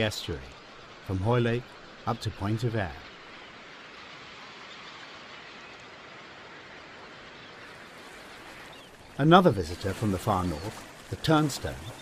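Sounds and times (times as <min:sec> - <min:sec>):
faint shoreline hiss: 0:00.0 - 0:12.0.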